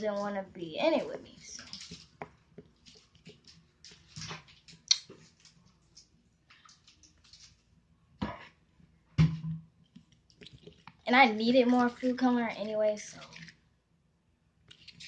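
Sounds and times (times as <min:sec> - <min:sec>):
slime squelching while stirred: 0:00.0 - 0:07.9, 0:09.8 - 0:13.8, 0:14.6 - 0:15.0.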